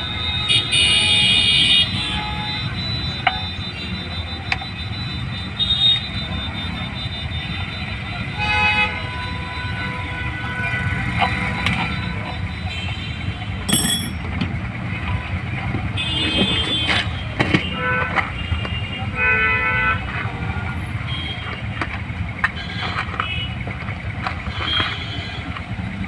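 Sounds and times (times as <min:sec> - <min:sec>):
vehicle horns honking: 0:00.0 - 0:25.8
street traffic rumble: 0:00.0 - 0:26.0.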